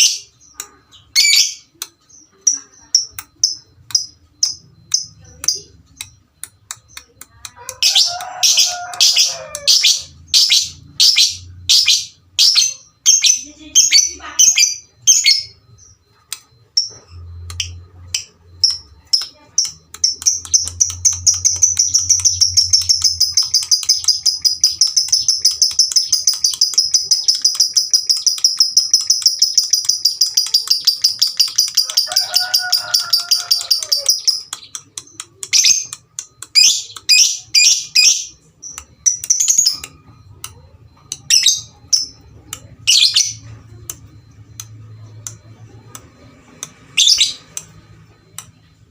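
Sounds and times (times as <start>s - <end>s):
bird chattering trill: 0.0s - 48.6s
bird chirping: 0.0s - 48.9s.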